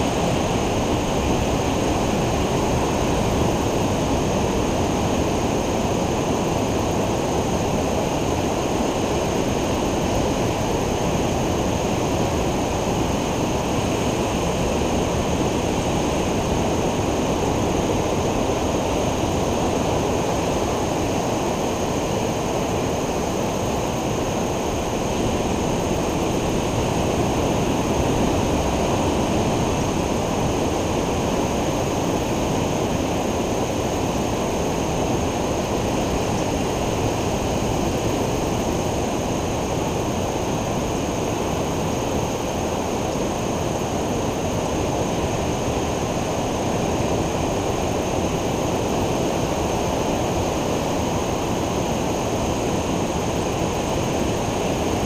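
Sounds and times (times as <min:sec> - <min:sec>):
ocean surf roaring: 0:00.0 - 0:55.0.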